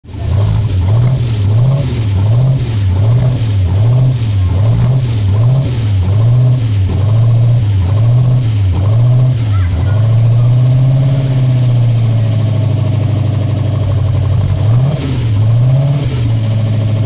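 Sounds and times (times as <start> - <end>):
car engine running loudly: 0.0 - 17.0.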